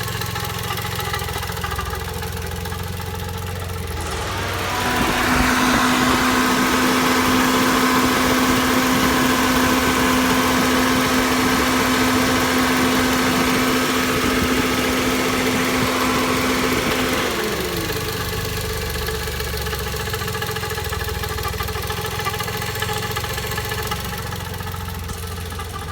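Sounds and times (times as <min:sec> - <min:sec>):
car engine vibrating: 0:00.0 - 0:25.9.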